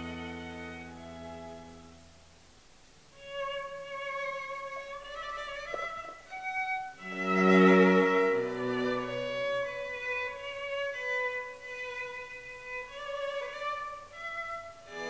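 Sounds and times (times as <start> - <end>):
slow string melody: 0.0 - 2.4, 3.1 - 15.0.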